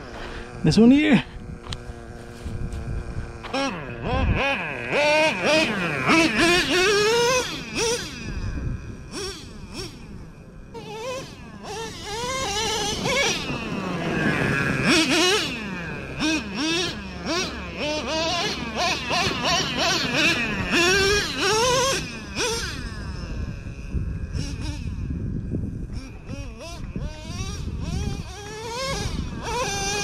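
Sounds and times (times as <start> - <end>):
drone propellers buzzing: 0.0 - 30.0
small engine revving: 0.0 - 30.0.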